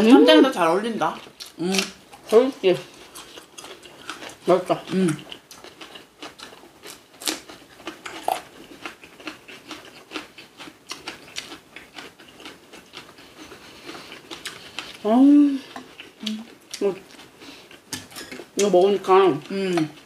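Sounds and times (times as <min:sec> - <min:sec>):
crisp chewing and crunching: 0:00.6 - 0:20.0.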